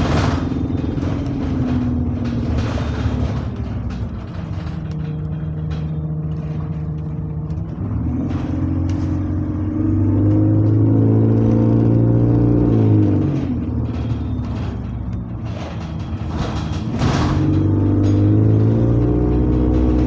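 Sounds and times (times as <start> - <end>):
bus engine from inside: 0.0 - 20.0.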